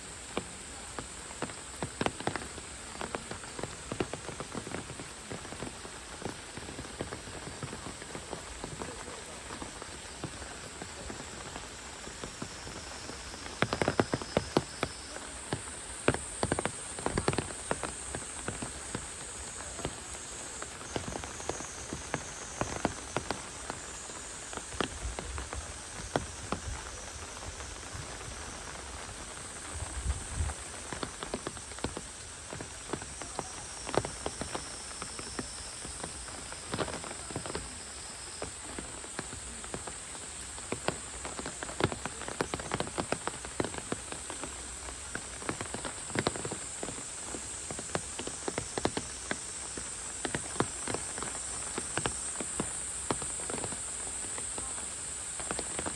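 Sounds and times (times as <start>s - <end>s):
heavy rain falling: 0.0s - 55.9s
raindrops tapping close by: 0.0s - 55.9s.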